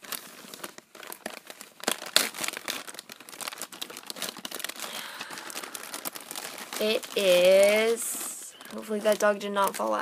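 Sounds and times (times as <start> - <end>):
plastic bag and tissue crinkling: 0.0 - 10.0.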